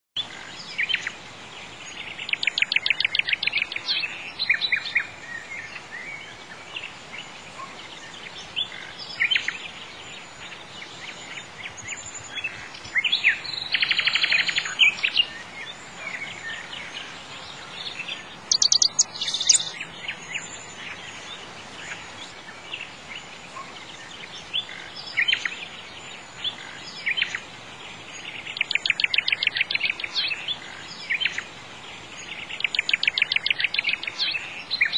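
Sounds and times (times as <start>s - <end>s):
birds chirping and trilling: 0.2s - 34.9s
faint background noise: 0.2s - 34.9s.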